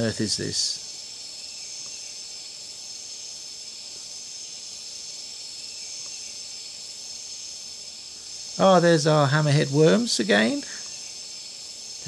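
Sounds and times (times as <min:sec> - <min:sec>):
insects singing: 0:00.0 - 0:12.0.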